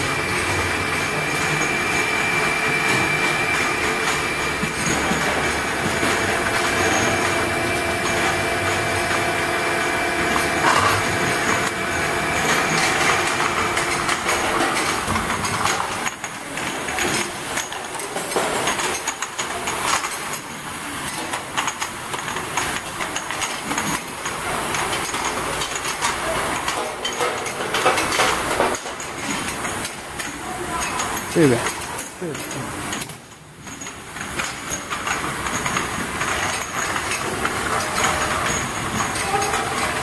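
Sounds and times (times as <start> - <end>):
washing machine humming and whining: 0.0 - 40.0
glass bottles clinking: 0.1 - 40.0.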